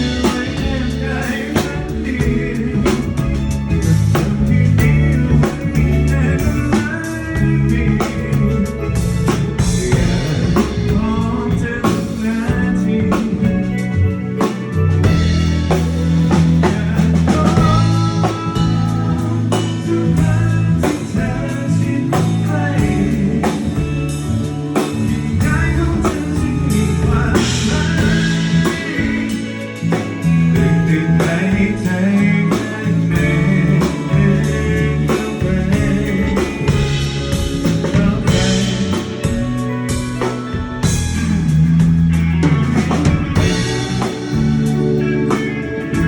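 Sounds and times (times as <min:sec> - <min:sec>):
bass line: 0:00.0 - 0:46.0
drum-kit beat: 0:00.0 - 0:46.0
live band playing: 0:00.0 - 0:46.0.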